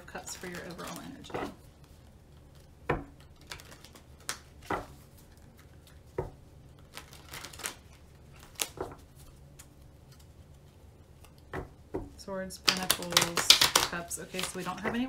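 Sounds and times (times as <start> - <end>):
cards being shuffled: 0.1 - 11.5, 12.6 - 15.0.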